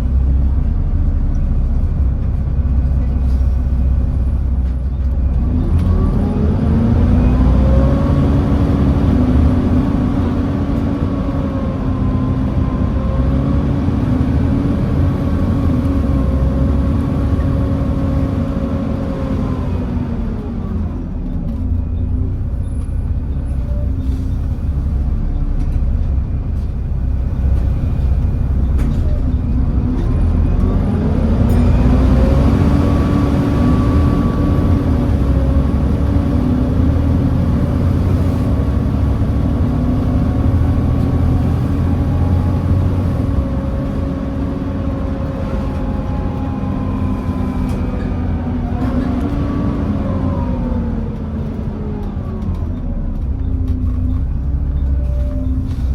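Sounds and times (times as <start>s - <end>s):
bus engine and fans whining: 0.0s - 55.9s.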